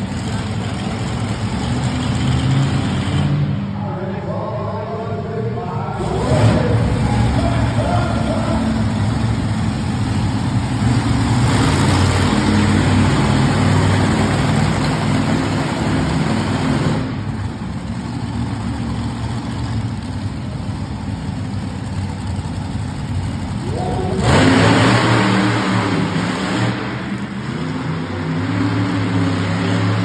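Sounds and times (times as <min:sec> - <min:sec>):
monster truck engine droning: 0:00.0 - 0:30.0.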